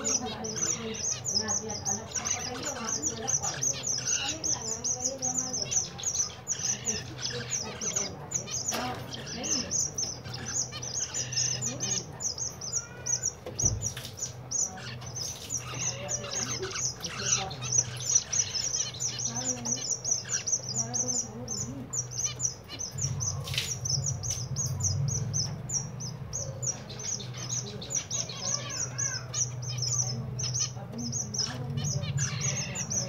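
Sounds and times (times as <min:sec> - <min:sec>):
finches chirping: 0:00.0 - 0:33.0.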